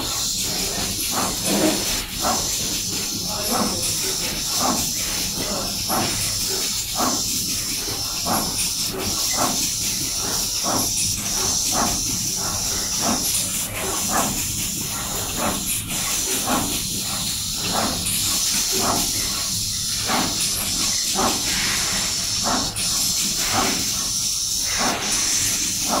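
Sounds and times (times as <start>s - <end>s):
machine hiss and hum: 0.0s - 26.0s.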